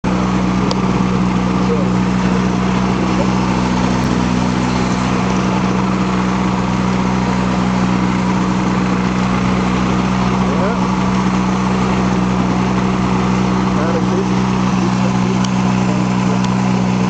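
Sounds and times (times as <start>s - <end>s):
engine idling drone: 0.0s - 17.0s.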